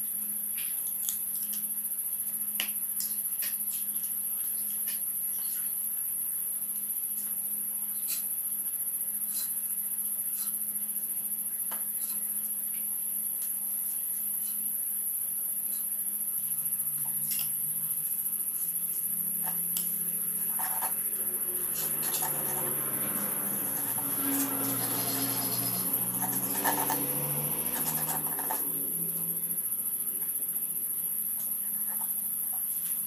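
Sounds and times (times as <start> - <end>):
night insects droning: 0.0 - 33.0.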